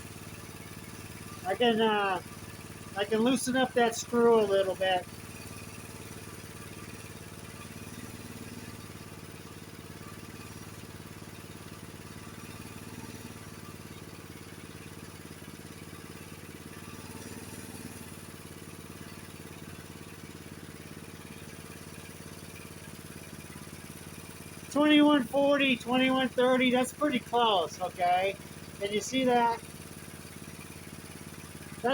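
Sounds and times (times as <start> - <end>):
snowblower engine idling: 0.0 - 31.9.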